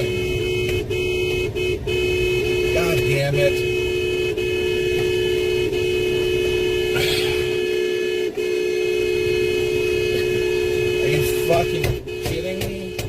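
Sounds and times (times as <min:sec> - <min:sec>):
car horn steady tone: 0:00.0 - 0:13.0.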